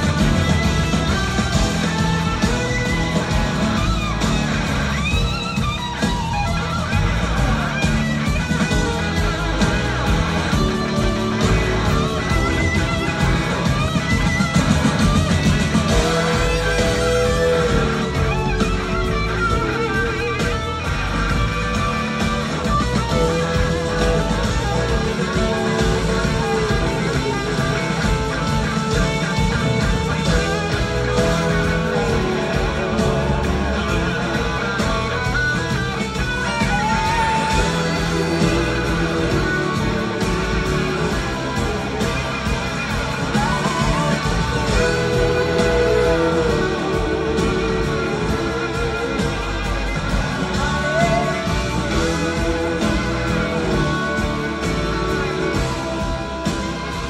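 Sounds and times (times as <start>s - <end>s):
rock band playing: 0.0s - 57.0s
slide electric guitar lead: 0.0s - 57.0s.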